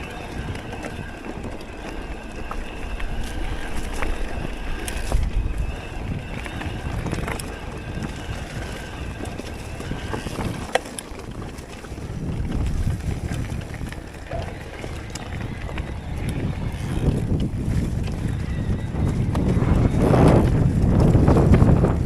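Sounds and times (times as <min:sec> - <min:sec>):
bike clicks and rattles: 0:00.0 - 0:22.0
bike tyres rumbling over dirt: 0:00.0 - 0:22.0
wind buffeting microphone: 0:00.0 - 0:22.0.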